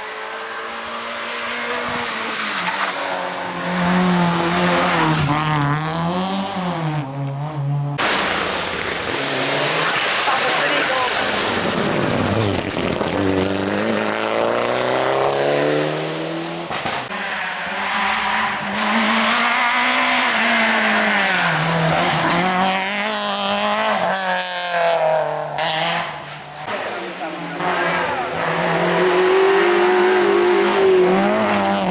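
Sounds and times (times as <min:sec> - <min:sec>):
rally car engine at full throttle: 0:00.0 - 0:31.9.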